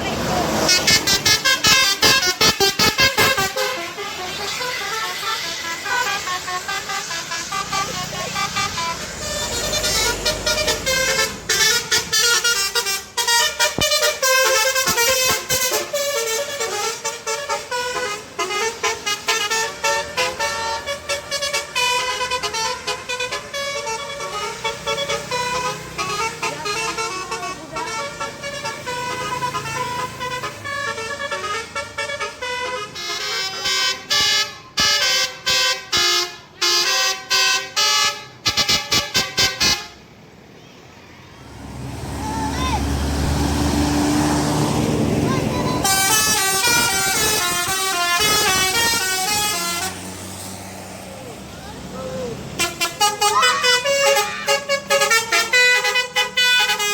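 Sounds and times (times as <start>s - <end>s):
bus melody horn: 0.4s - 40.2s, 42.2s - 50.5s, 52.4s - 56.9s.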